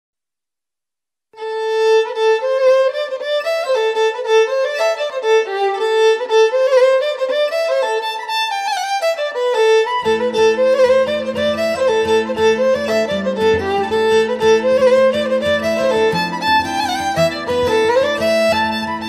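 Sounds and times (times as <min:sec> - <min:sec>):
fiddle playing quick melody: 0:01.4 - 0:19.0.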